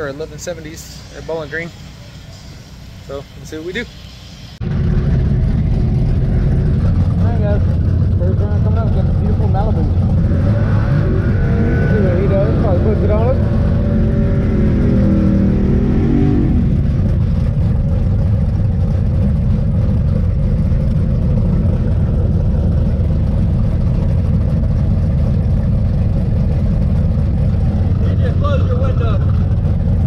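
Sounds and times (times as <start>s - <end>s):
car engine idling loudly: 4.6s - 30.0s.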